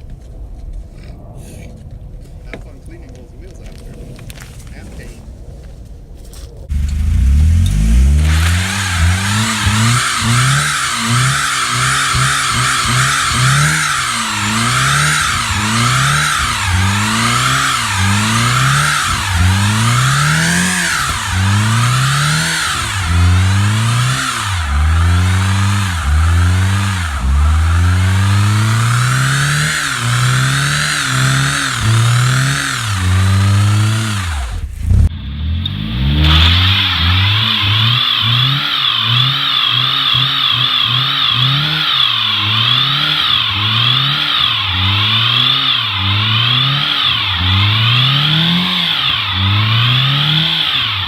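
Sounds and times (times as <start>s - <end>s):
wavering high-pitched whine: 6.2s - 51.0s
car engine revving hard: 6.7s - 51.0s.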